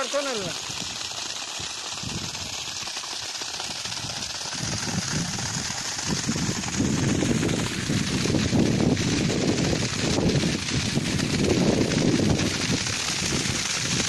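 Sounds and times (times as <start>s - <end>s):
water gushing and splashing: 0.0s - 14.0s.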